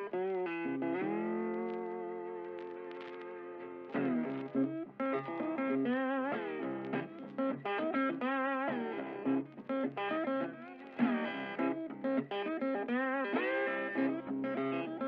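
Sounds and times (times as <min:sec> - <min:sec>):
guitar melody with bent notes: 0:00.0 - 0:15.0.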